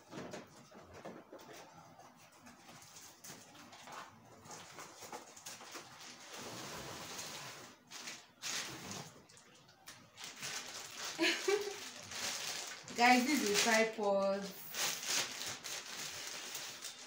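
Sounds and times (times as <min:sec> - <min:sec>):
cardboard box and plastic rustling: 0:00.0 - 0:17.0.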